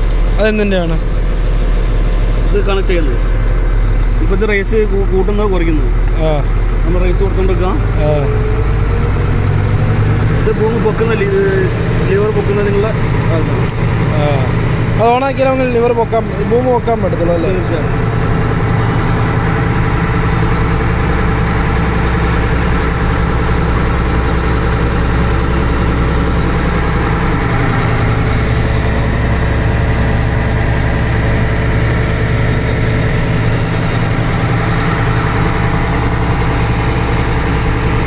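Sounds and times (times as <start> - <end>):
diesel engine running at raised revs: 0.0 - 38.0.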